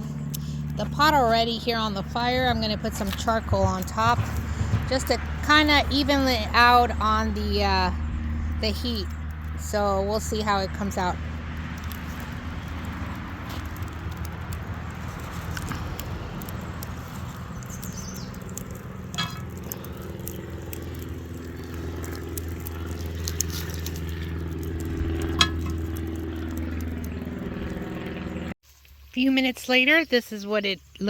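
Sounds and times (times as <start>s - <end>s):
charcoal crackling: 0.0s - 29.4s.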